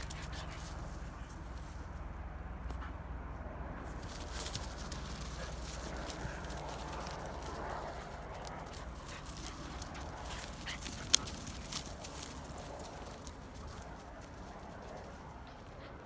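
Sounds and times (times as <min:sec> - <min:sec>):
paws rustling dry leaves: 0:00.0 - 0:02.0, 0:03.8 - 0:16.0.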